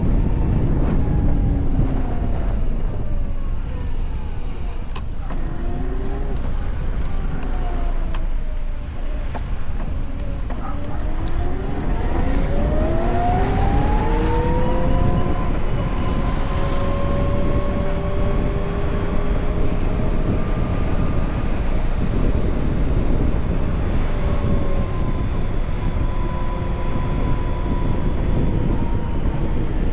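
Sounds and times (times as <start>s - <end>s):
electric motor whining: 0.0s - 29.9s
wind and road noise: 0.0s - 29.9s.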